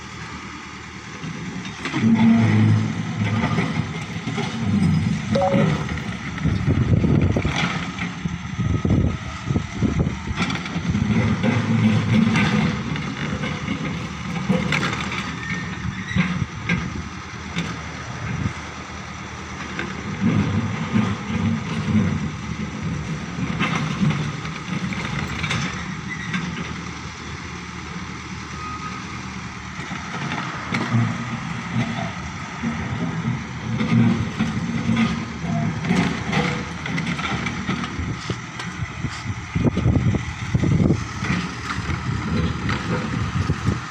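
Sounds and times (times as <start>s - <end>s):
diesel engine working: 0.0s - 43.9s.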